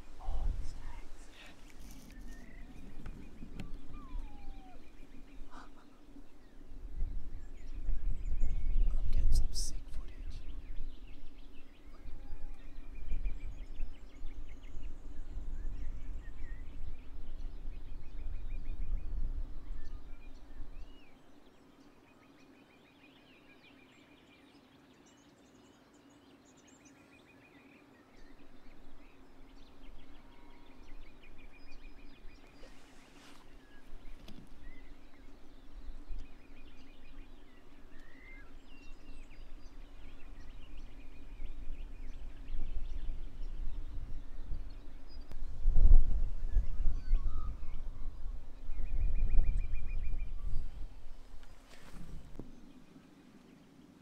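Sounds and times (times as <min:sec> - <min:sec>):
birds trilling and chirping: 0:00.0 - 0:54.0
faint low hum: 0:00.0 - 0:54.0.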